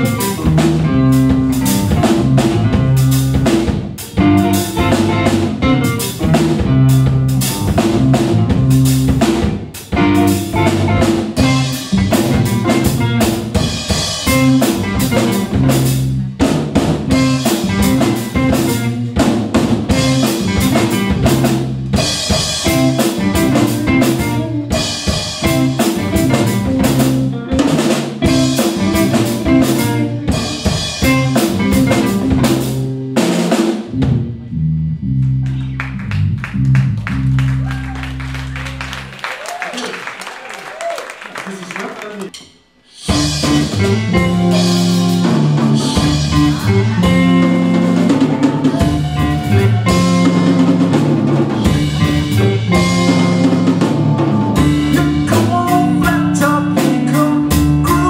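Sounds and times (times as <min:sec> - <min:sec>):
electric guitars: 0:00.0 - 0:39.2, 0:43.0 - 0:58.0
electric bass: 0:00.0 - 0:39.4, 0:43.0 - 0:58.0.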